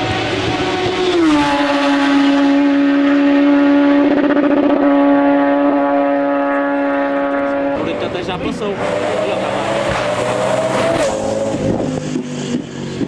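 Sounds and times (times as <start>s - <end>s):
loud steady droning tone: 0.0s - 13.0s
race car engine: 0.0s - 13.0s.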